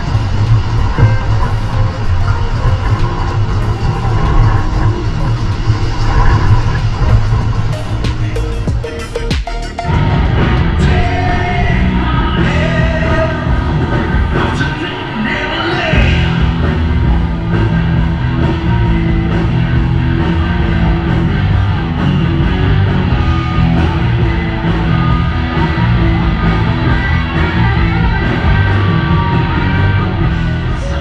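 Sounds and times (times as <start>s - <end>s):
hard rock music: 0.0s - 31.0s.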